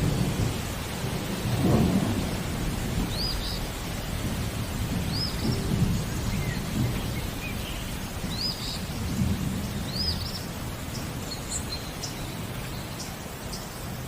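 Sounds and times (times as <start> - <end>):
low rolling thunder: 0.0 - 11.8
steady rain: 0.0 - 14.0.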